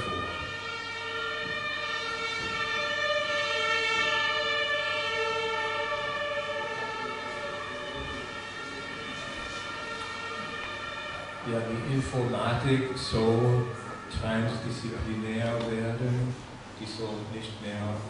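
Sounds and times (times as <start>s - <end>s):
steady drone of held tones: 0.0s - 18.0s.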